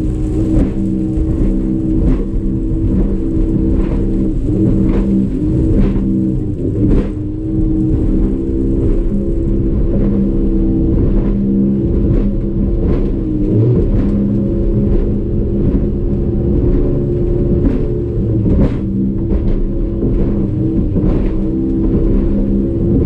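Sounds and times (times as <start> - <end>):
hull thudding on waves: 0.0 - 23.0
outboard motor running hard: 0.0 - 23.0.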